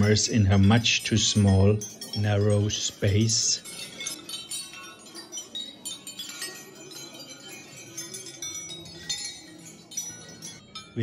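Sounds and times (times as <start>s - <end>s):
steel hammers clinking: 0.0s - 11.0s.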